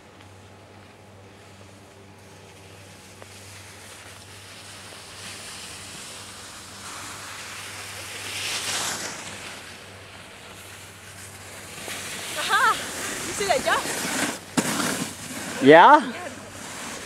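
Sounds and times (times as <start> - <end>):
snowboard scraping over snow: 2.2 - 17.0.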